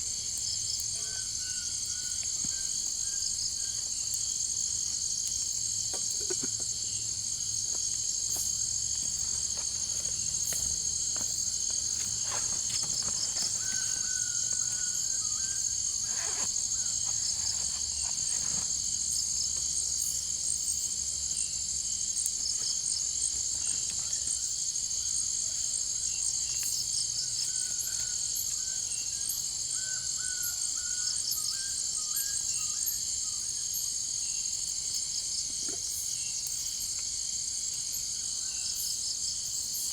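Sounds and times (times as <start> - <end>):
chorus of insects: 0.0 - 39.9.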